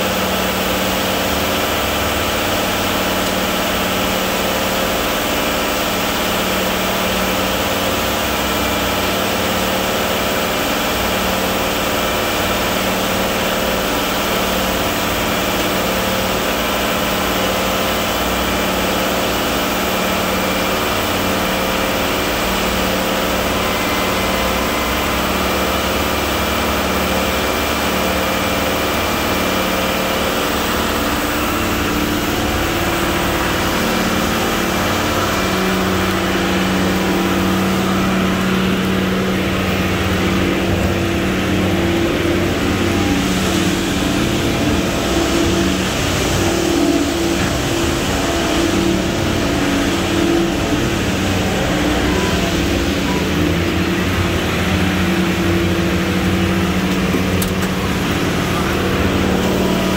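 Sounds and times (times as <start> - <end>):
diesel truck engine: 0.0 - 59.9
mixer drum turning: 0.0 - 59.9.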